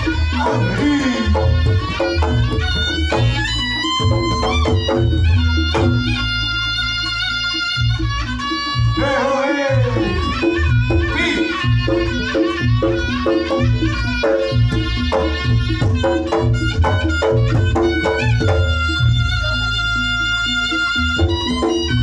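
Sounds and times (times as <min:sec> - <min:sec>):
drums and gongs beat: 0:00.0 - 0:22.0
reed trumpet melody: 0:00.0 - 0:22.0.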